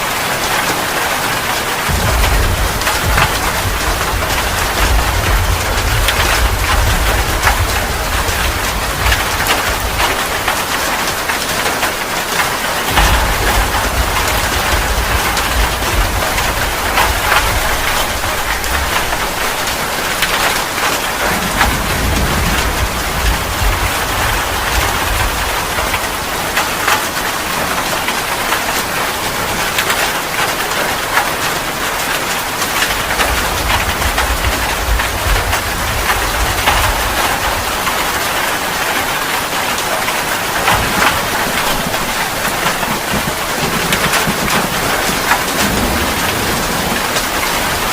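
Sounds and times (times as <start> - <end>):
heavy rain: 0.0 - 47.9
low thunder rumbling: 0.2 - 30.0, 30.6 - 47.9.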